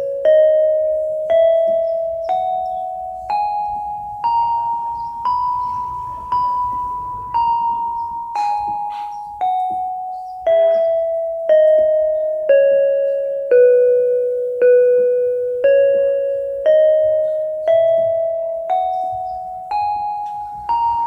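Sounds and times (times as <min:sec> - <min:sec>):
keyboard playing a scale: 0:00.0 - 0:21.0.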